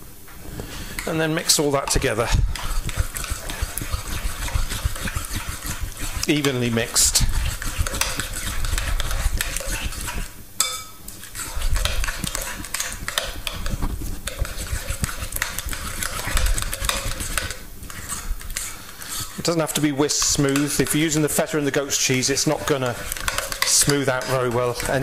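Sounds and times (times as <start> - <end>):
utensil stirring mixture in bowl: 0.6 - 25.0
utensil tapping bowl: 1.0 - 18.7, 19.3 - 25.0.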